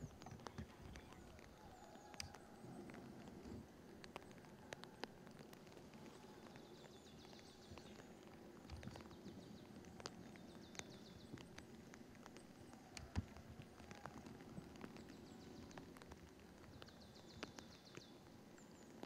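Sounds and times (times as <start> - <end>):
faint crackles and ticks: 0.0 - 19.0.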